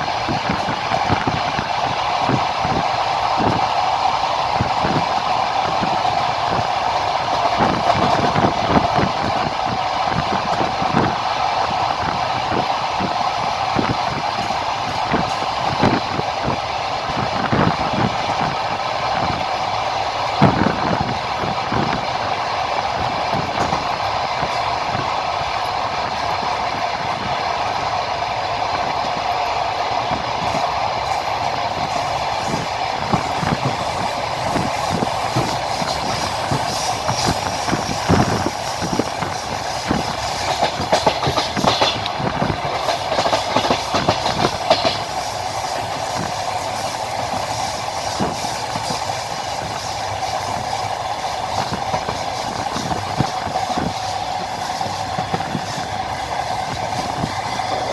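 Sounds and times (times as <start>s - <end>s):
train rolling noise: 0.0s - 57.9s
train wheels clattering on rails: 0.0s - 57.9s.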